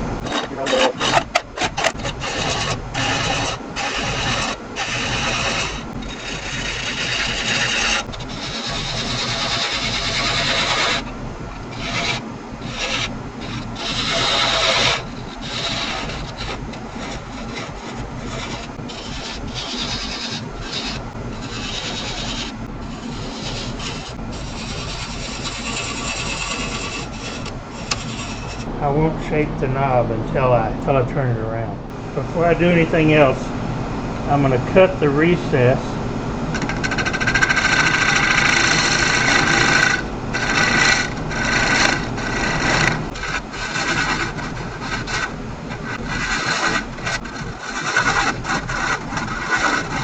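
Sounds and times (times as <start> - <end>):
tool cutting spinning wood: 0.0 - 31.0, 31.9 - 50.0
wood lathe running: 0.0 - 31.1, 31.9 - 50.0.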